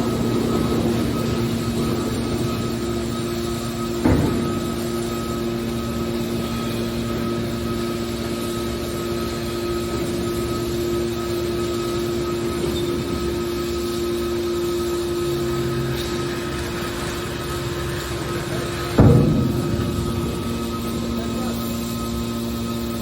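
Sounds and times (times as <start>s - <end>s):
baler machine hum: 0.0s - 23.0s.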